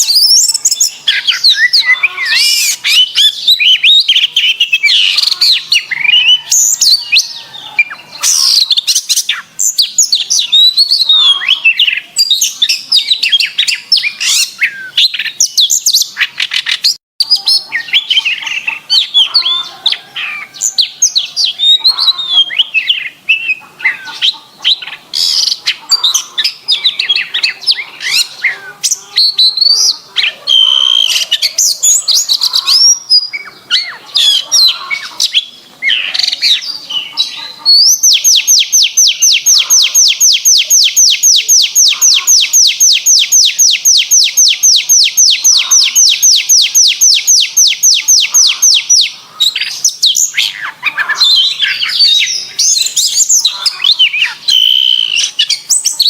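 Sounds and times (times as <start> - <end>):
canary singing trills and chirps: 0.0 - 56.0.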